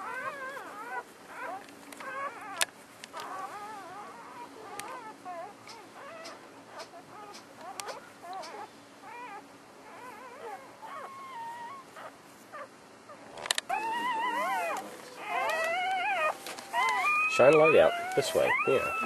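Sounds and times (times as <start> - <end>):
puppies squeaking and whimpering: 0.0 - 19.0
puppy whining: 0.0 - 19.0.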